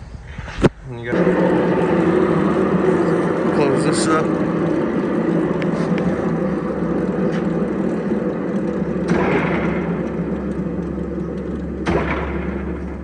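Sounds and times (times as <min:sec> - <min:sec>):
deep low drone: 0:01.1 - 0:13.0
surface grinder humming: 0:01.1 - 0:13.0.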